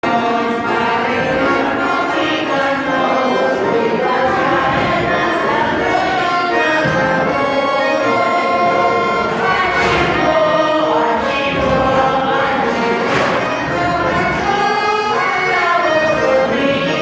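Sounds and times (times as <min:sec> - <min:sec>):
button accordion playing: 0:00.0 - 0:17.0
group of people singing: 0:00.0 - 0:17.0.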